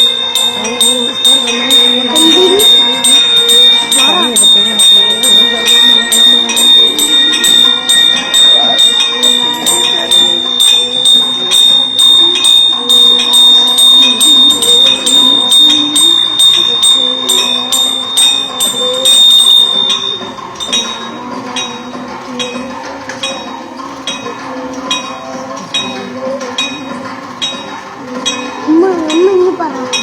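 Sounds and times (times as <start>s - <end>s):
temple bell ringing rapidly: 0.0s - 30.0s.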